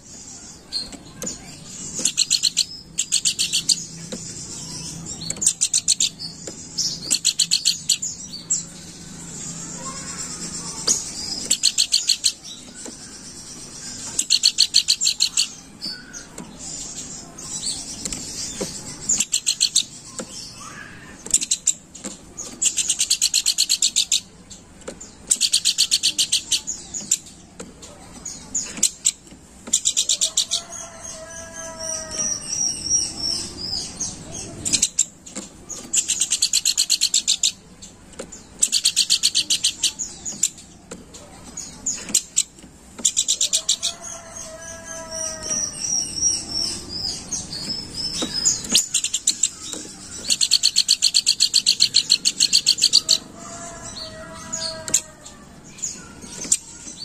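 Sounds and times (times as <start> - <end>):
bird chattering in trills: 0.0 - 57.0.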